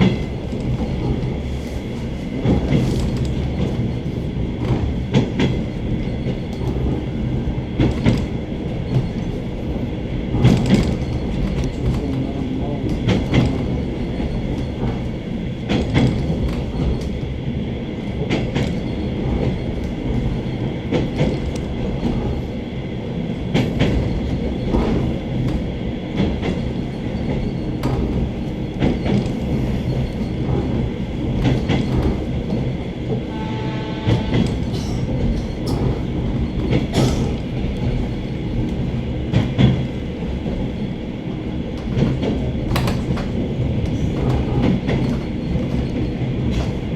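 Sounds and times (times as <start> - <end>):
train carriage rumbling: 0.0 - 46.9.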